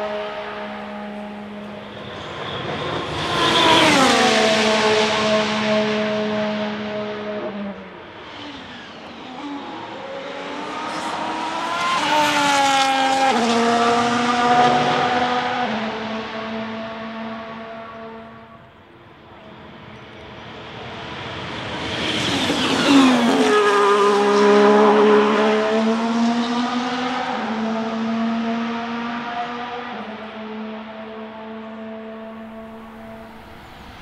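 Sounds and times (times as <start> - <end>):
racing car engine passing at high revs: 0.0 - 18.6, 20.4 - 34.0.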